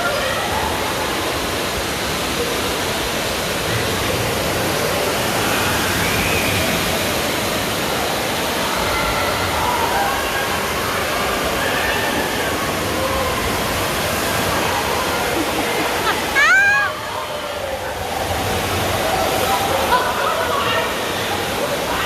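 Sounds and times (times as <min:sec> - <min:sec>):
faint voices: 0:00.0 - 0:22.0.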